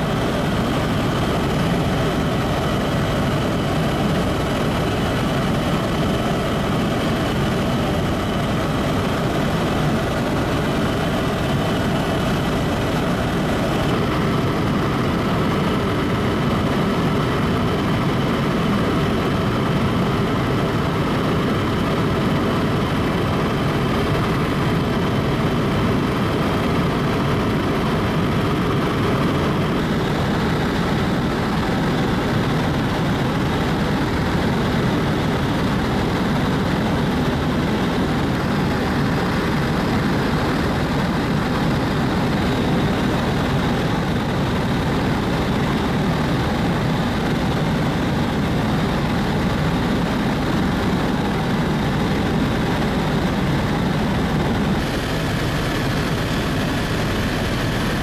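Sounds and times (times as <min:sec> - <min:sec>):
helicopter engine and rotors droning: 0:00.0 - 0:58.0.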